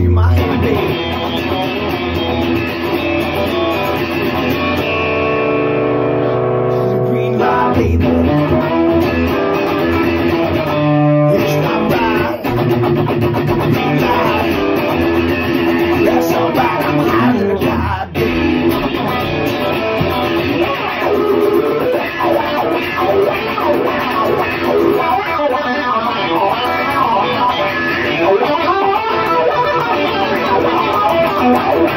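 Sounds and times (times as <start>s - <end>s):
guitar music: 0.0s - 31.9s.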